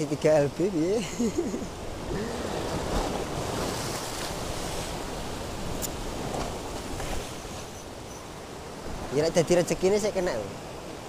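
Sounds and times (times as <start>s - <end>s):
surf washing over rocks: 0.0s - 11.0s.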